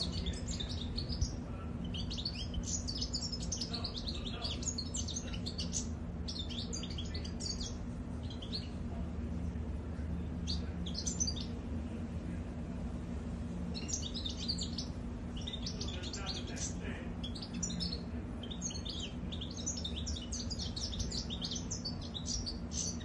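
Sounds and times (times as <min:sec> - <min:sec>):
bird twittering song: 0:00.0 - 0:09.0, 0:10.0 - 0:11.8, 0:13.6 - 0:23.0
steady low hum: 0:00.0 - 0:23.0.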